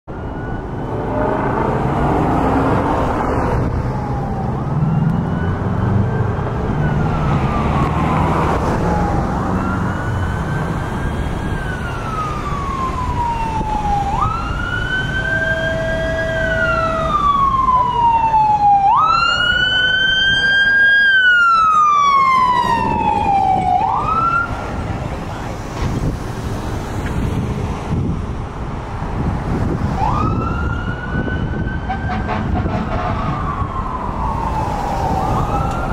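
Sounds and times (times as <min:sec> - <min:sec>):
fire engine siren wailing: 0:00.1 - 0:28.2, 0:29.1 - 0:35.9
passing road traffic: 0:00.1 - 0:35.9.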